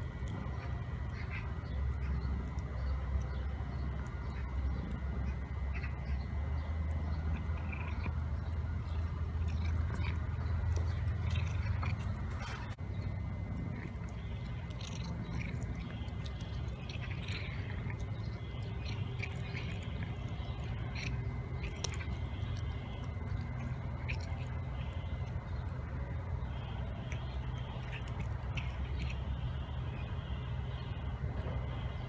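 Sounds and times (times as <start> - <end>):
cat chewing meat: 0.0 - 32.0
low background rumble: 0.0 - 32.0.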